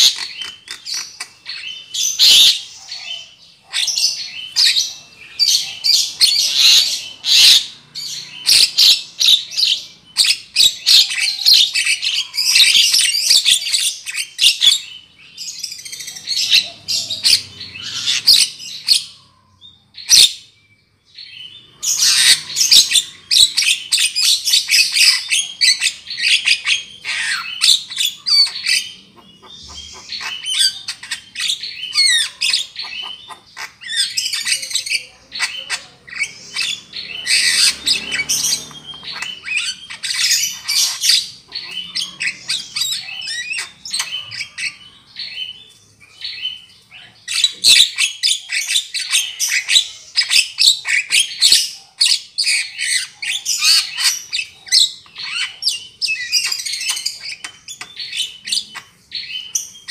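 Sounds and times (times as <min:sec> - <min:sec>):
bird chattering and squawking: 0:00.0 - 0:20.5, 0:21.2 - 0:59.9.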